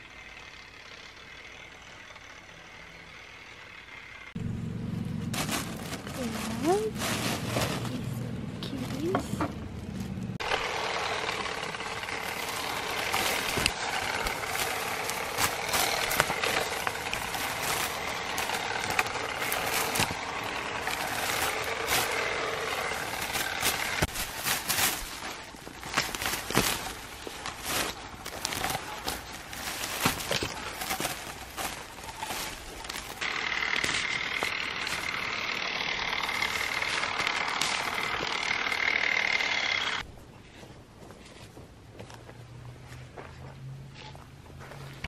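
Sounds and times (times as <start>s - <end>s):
leaves rustling and clicking: 4.4s - 40.6s.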